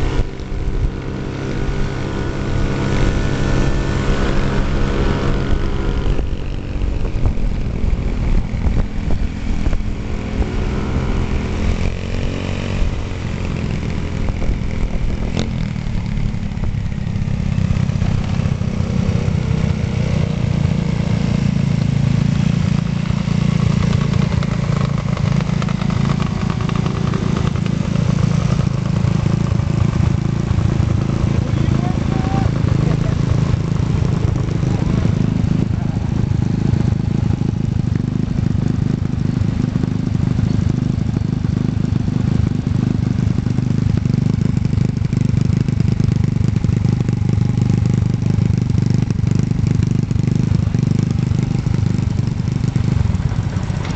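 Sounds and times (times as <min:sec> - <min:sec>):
scooter engines revving: 0:00.0 - 0:53.9
scooters idling: 0:04.2 - 0:53.9.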